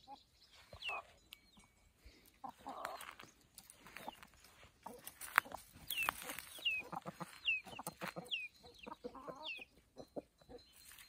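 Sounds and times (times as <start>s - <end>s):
chickens clucking softly: 0.0s - 1.6s, 2.3s - 11.0s.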